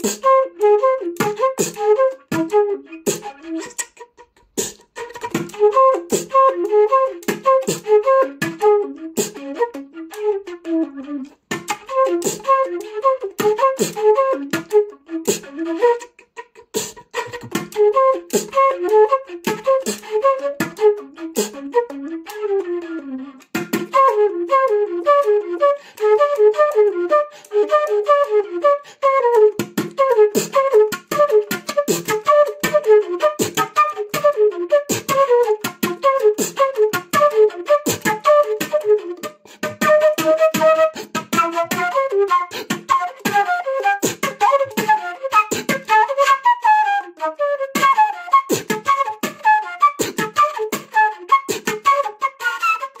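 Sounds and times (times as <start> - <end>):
beatbox flute playing: 0.0 - 53.0.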